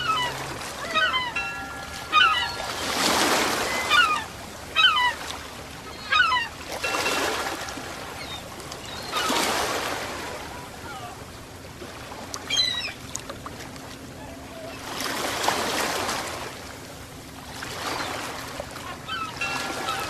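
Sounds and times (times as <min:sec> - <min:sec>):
ocean waves washing onto shore: 0:00.0 - 0:20.0.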